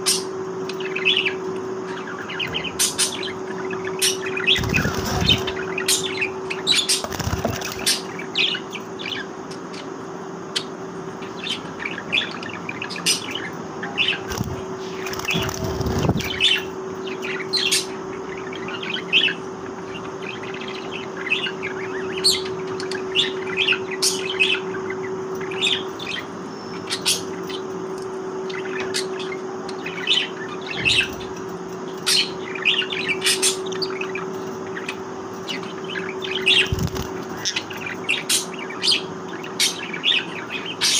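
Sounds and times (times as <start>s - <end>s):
budgerigars chirping: 0.0s - 27.8s, 28.4s - 40.9s
steady hum: 0.0s - 40.9s.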